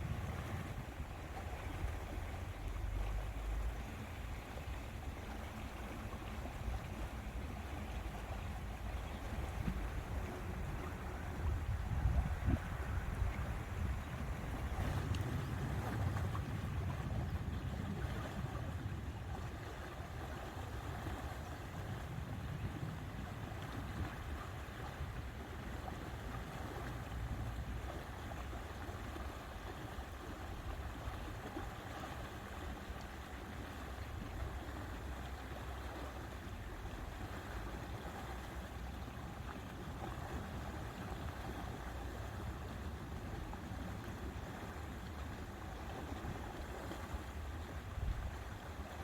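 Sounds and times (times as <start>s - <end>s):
low wind rumble: 0.0s - 32.6s, 33.9s - 49.0s.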